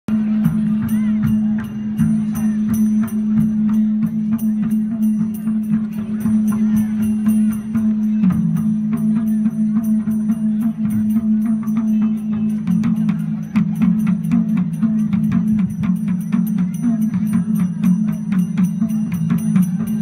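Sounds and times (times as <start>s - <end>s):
steady drum beat: 0.1s - 20.0s.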